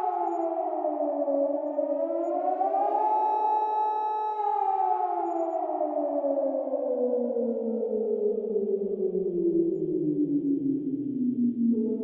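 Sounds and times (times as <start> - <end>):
warning siren wailing: 0.0 - 10.6.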